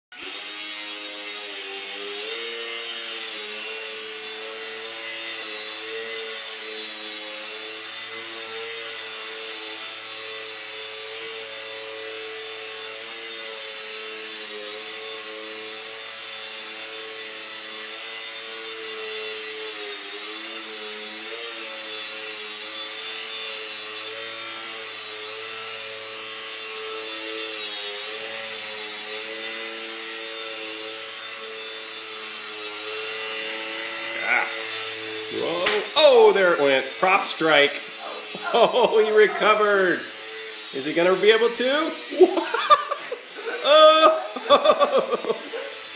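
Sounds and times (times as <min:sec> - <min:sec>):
model airplane motor buzzing: 0:00.2 - 0:45.9.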